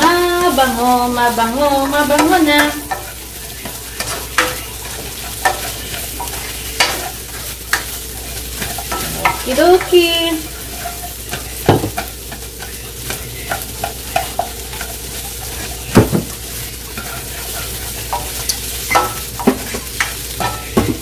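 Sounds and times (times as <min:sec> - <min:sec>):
spatula scraping a pan: 0:00.0 - 0:21.0
vegetables sizzling in oil: 0:00.0 - 0:21.0.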